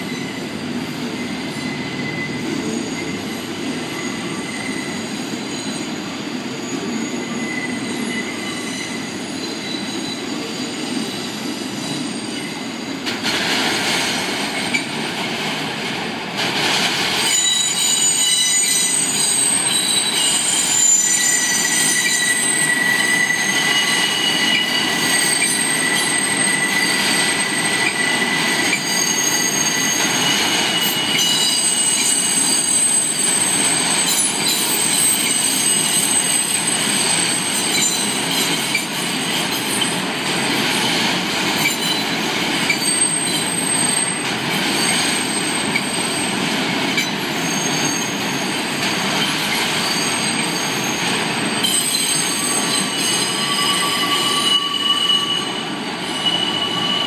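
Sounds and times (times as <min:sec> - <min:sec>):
high wheel squeal: 0:00.0 - 0:13.0, 0:17.1 - 0:57.0
train wheels rumbling on rail: 0:00.0 - 0:57.0.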